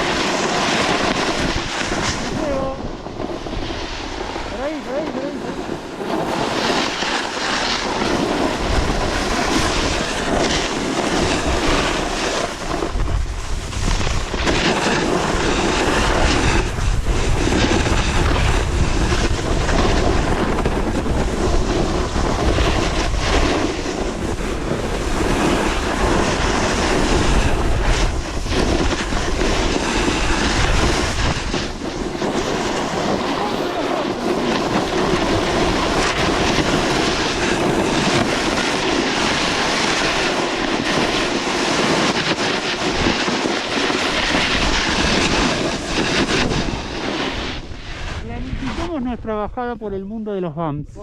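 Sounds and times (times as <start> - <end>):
skis scraping icy snow: 0.0 - 49.1
wind buffeting microphone: 0.0 - 51.0.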